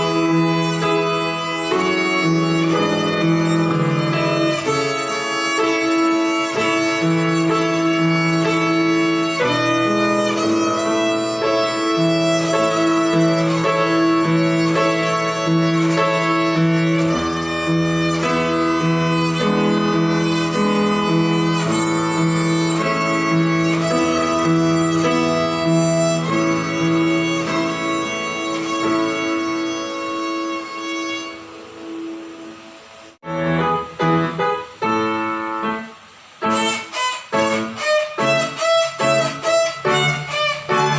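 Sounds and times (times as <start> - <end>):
violin melody: 0.0 - 40.9.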